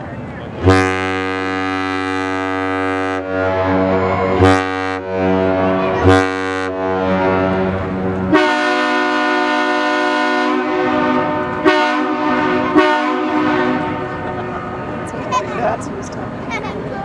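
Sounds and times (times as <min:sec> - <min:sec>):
higher-pitched ship horn blasts: 0:00.6 - 0:15.0
deep ship horn: 0:00.6 - 0:15.1.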